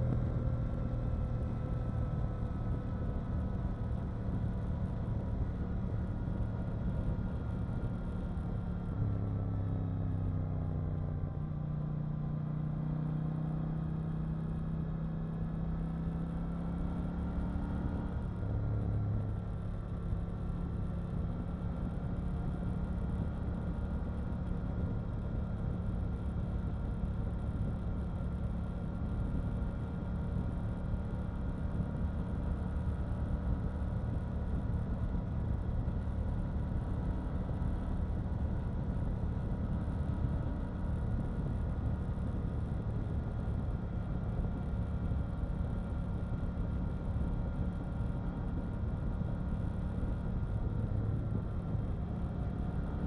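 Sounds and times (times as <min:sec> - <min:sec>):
motorcycle engine running steadily: 0:00.0 - 0:53.0.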